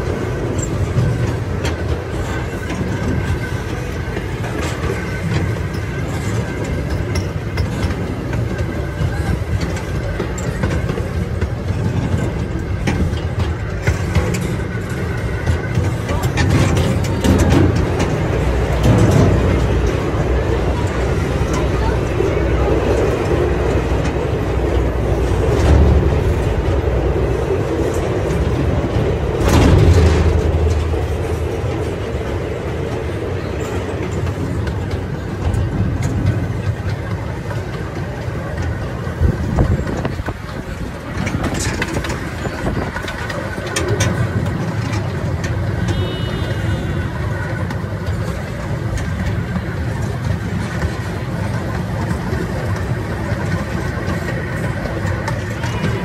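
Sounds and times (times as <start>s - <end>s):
small train rumbling and rattling: 0.0s - 56.0s.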